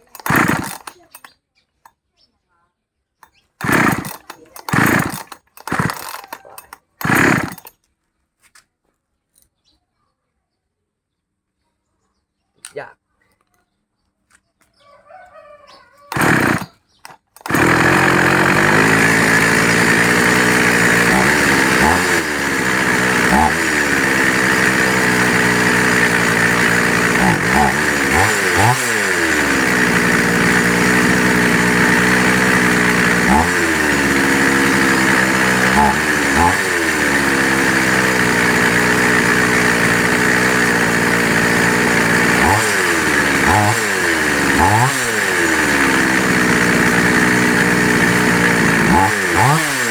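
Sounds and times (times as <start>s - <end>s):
chainsaw starting and running: 0.0s - 1.4s, 3.2s - 7.8s, 16.0s - 49.9s.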